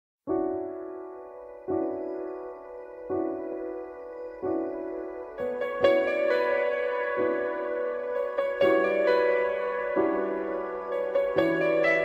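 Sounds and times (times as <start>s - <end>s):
electric piano chords: 0.3s - 12.0s.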